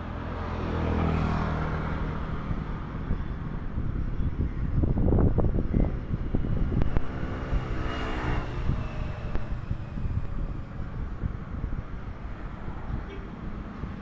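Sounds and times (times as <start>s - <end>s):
passing engine hum: 0.0s - 14.0s
low outdoor rumble: 2.4s - 14.0s.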